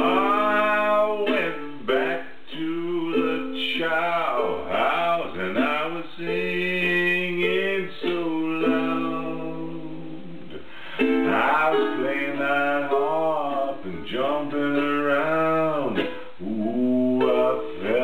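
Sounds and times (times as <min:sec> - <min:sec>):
strummed string accompaniment: 0:00.0 - 0:18.0.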